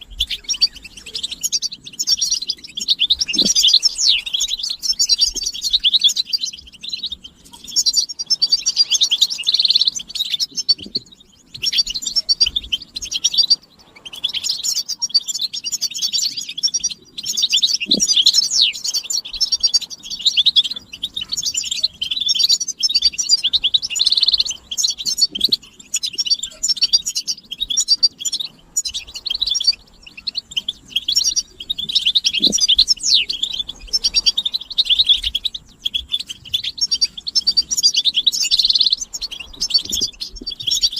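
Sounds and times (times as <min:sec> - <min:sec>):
goldfinches twittering: 0:00.0 - 0:40.9.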